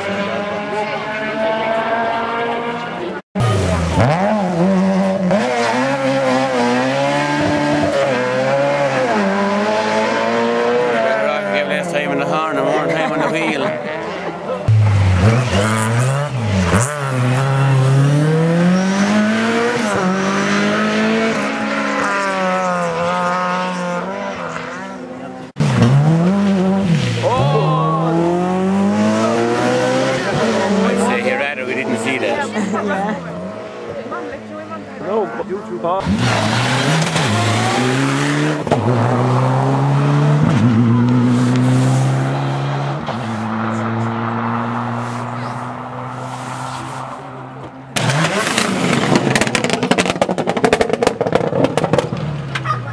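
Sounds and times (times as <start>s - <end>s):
rally car engine pulling hard: 0.0s - 52.9s.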